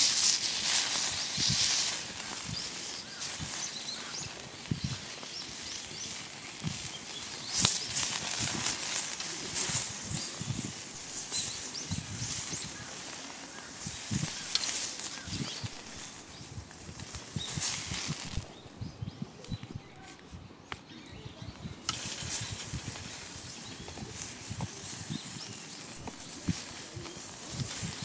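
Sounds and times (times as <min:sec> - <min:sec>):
wood fire crackling and popping: 0:00.0 - 0:20.9, 0:21.6 - 0:28.0.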